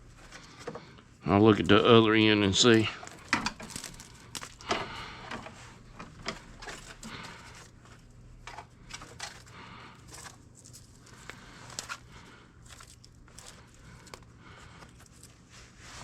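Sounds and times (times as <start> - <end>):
wire clicking and rustling: 2.6 - 15.6.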